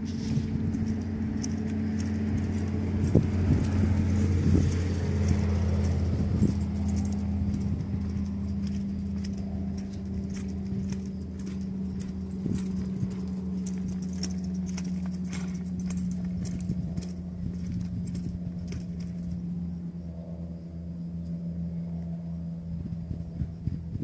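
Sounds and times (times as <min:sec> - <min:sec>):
muffled hoofbeats on sand: 0:00.0 - 0:19.4
light metallic jingling: 0:00.0 - 0:24.0
low mechanical hum: 0:00.0 - 0:24.0.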